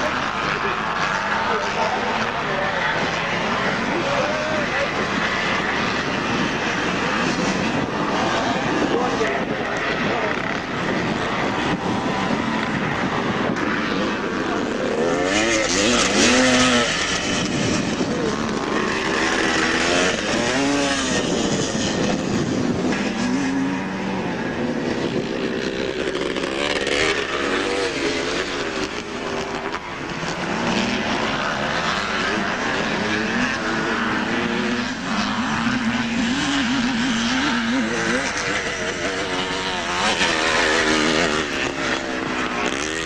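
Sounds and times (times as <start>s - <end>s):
motocross motorcycles revving past: 0.0s - 43.0s.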